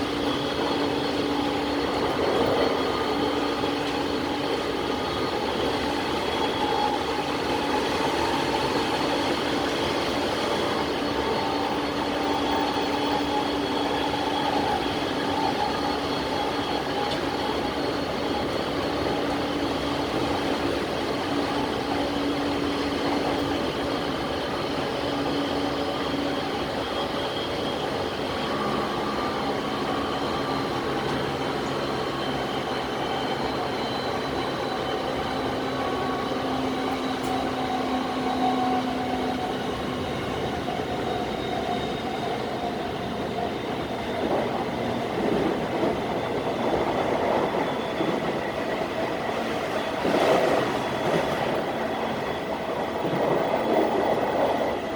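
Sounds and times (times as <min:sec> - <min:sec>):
train motor tones: 0:00.0 - 0:54.9
wheels rumbling on rail: 0:00.0 - 0:54.9.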